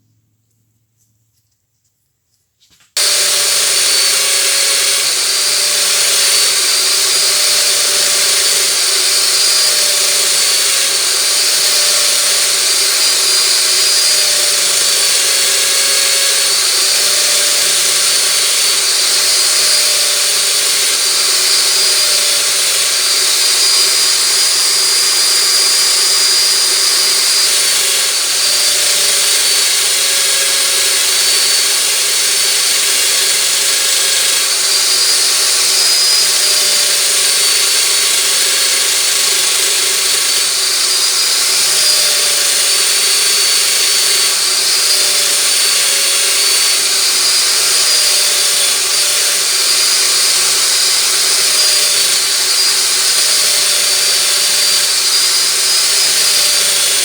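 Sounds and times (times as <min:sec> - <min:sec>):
electric power tool whining: 0:03.0 - 0:57.0.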